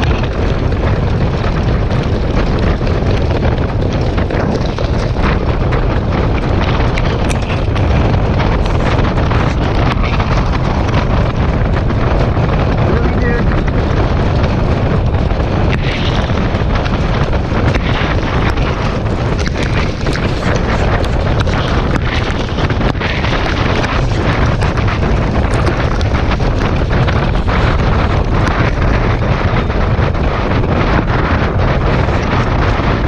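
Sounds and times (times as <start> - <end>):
hooves on the track: 0.0 - 33.0
wind buffeting microphone: 0.0 - 33.0.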